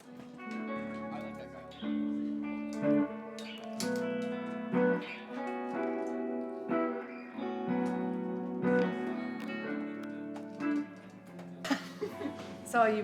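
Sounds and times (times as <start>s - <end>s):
guitar picked notes and chords: 0.0s - 13.0s.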